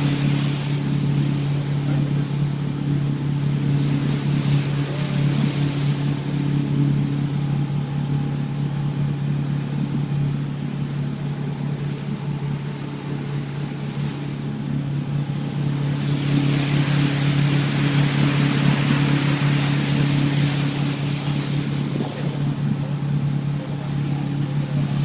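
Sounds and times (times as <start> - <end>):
motorboat engine droning: 0.0 - 25.0
rush of wind and water: 0.0 - 25.0.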